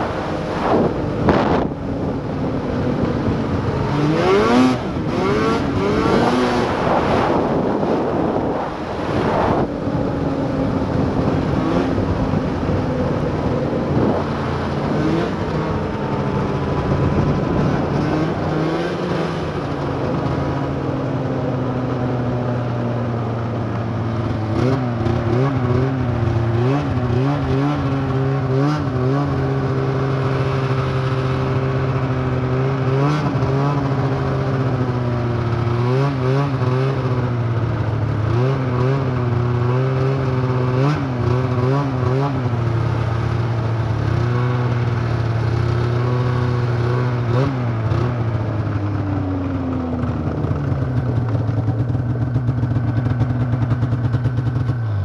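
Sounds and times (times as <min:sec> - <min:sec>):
snowmobile engine revving: 0:00.0 - 0:23.0, 0:23.7 - 0:55.0.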